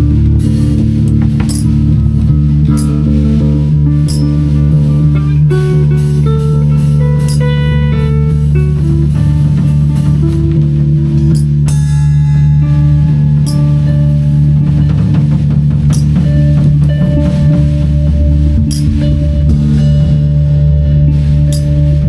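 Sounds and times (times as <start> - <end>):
drums and cymbal strikes: 0.0 - 22.0
low drone: 0.0 - 22.0.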